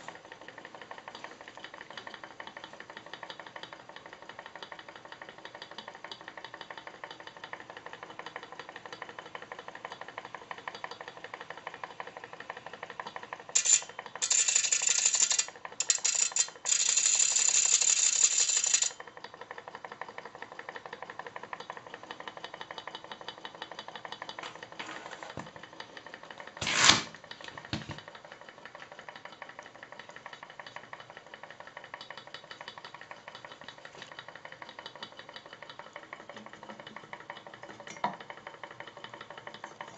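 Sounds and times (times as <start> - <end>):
model engine ticking clatter: 0.1 - 24.8, 27.3 - 39.9.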